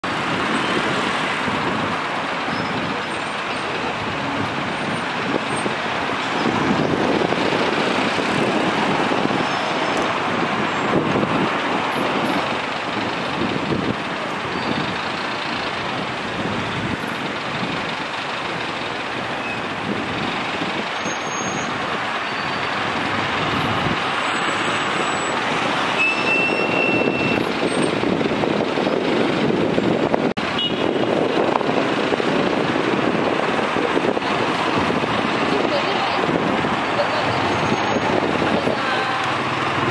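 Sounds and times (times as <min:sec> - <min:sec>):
congested road traffic: 0:00.0 - 0:39.9.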